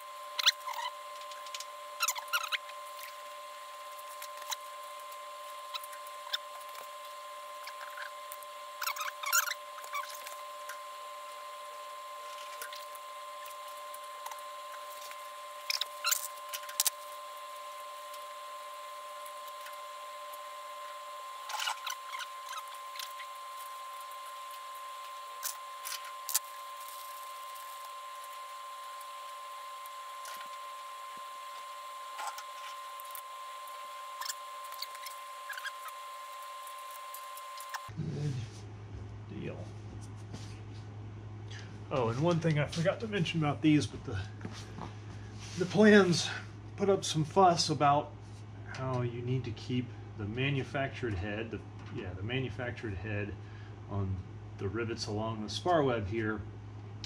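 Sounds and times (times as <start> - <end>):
steady high hum: 0.0 - 57.0.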